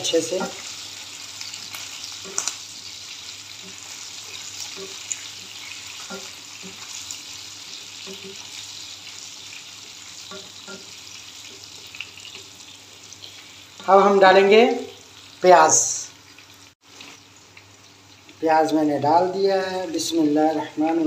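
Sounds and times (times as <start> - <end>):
garlic and seeds sizzling in oil: 0.0 - 21.0.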